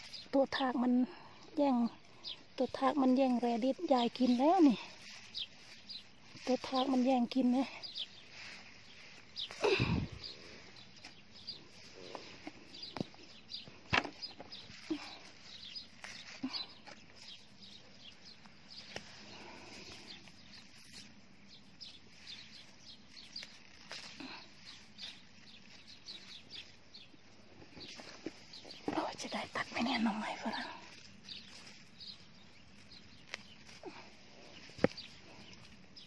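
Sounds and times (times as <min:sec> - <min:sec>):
leaves and soil rustling: 0:00.0 - 0:36.0.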